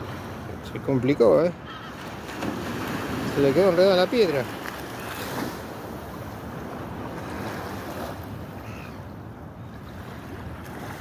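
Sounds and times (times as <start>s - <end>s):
sea waves around rocks: 0.0s - 11.0s.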